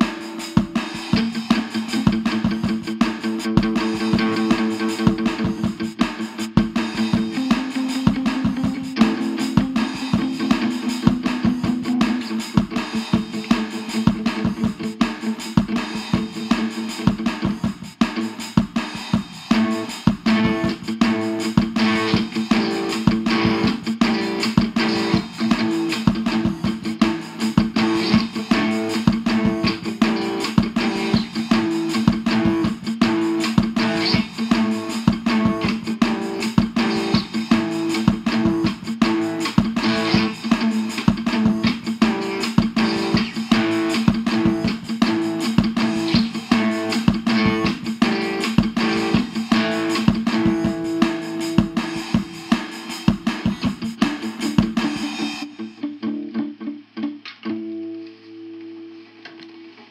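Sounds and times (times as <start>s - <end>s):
instrumental guitar music: 0.0s - 59.9s.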